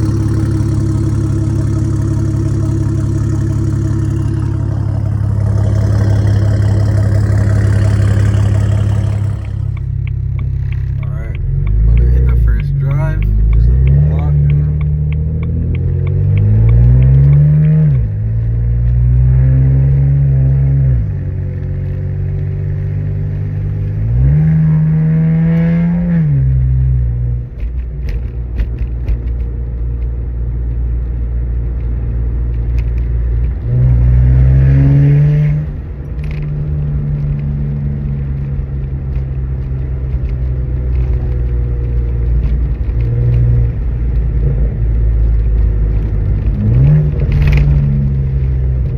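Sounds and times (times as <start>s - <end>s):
car engine revving: 0.0s - 30.0s, 30.7s - 48.9s
exhaust crackle: 0.0s - 48.9s.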